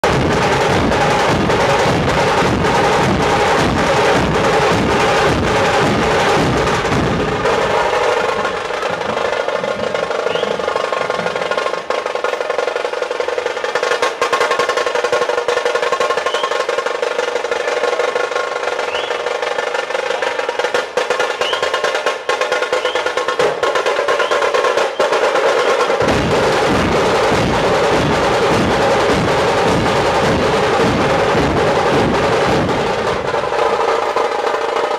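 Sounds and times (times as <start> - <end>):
dhol drums beating: 0.0 - 34.9
tasha drums rapid rolling: 0.0 - 34.9.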